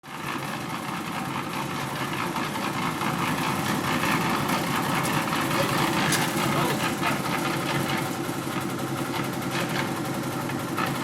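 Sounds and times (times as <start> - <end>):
concrete mixer engine rattling: 0.0 - 11.0.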